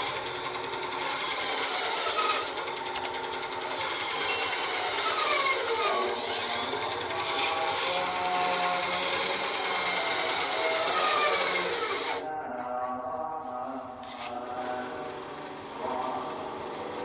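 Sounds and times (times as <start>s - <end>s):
bandsaw cutting wood: 0.0s - 12.2s, 14.0s - 17.0s
bandsaw running: 0.0s - 12.3s, 13.5s - 17.0s.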